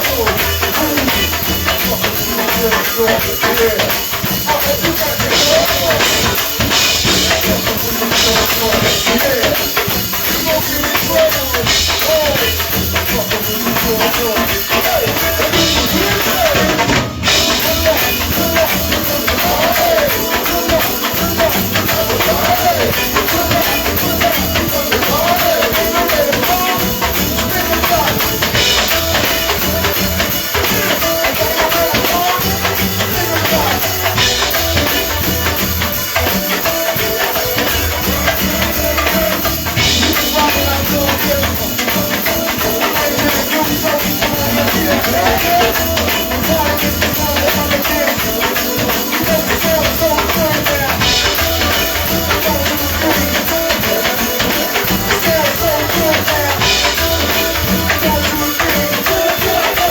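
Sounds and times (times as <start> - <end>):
drums and percussion: 0.0 - 59.9
live band music: 0.0 - 59.9
wavering melody line: 0.0 - 59.9.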